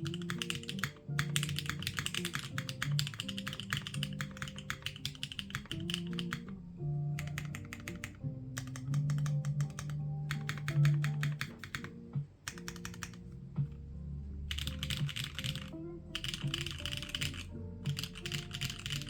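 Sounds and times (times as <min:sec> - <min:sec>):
mechanical keyboard typing: 0:00.0 - 0:13.3, 0:14.5 - 0:19.0
background music: 0:00.0 - 0:19.0.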